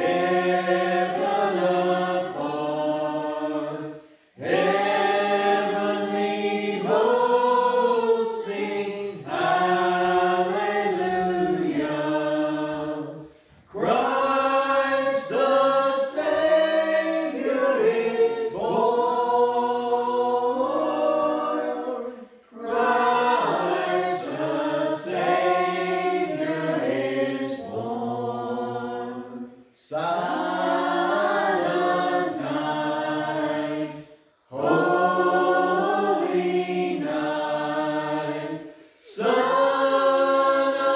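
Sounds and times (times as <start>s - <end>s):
group singing a carol: 0.0s - 40.9s.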